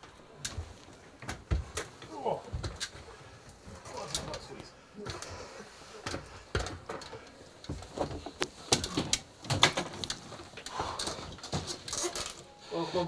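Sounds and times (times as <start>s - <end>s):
knocks and scuffs of climbing: 0.0s - 12.5s.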